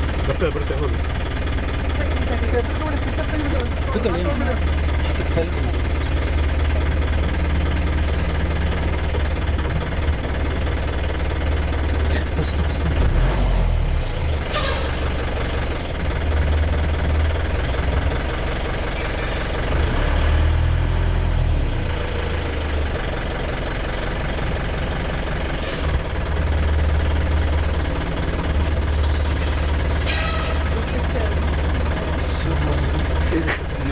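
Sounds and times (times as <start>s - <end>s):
jeep engine revving: 0.0s - 33.9s.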